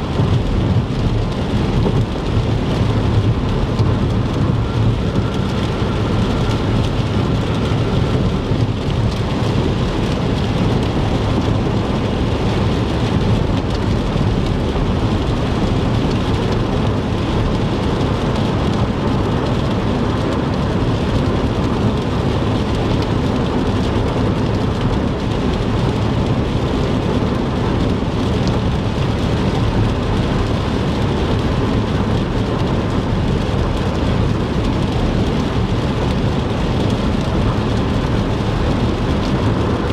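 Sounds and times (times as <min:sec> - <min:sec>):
heavy rain on a car: 0:00.0 - 0:39.9
road and engine rumble: 0:00.0 - 0:39.9.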